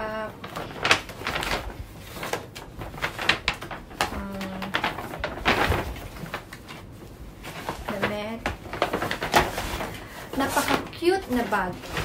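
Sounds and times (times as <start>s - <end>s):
paper bag rustling: 0.0s - 12.0s.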